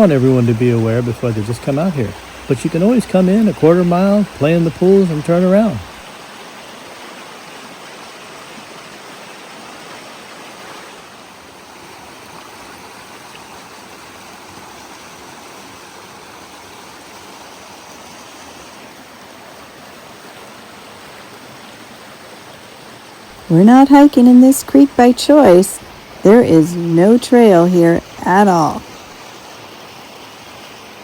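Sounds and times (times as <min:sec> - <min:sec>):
creek water flowing: 0:00.0 - 0:31.0.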